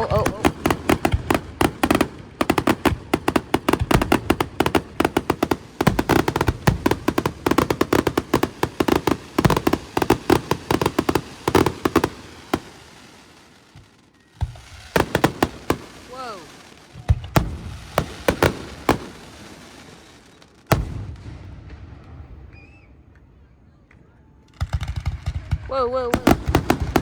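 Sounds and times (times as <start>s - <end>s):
fireworks bangs and crackles: 0.0s - 23.4s, 24.4s - 27.0s.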